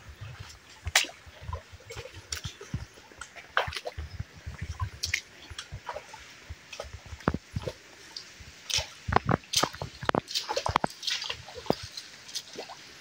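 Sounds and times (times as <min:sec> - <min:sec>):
creek gurgling over stones: 0:00.0 - 0:13.0
water drips and splashes: 0:00.0 - 0:13.0.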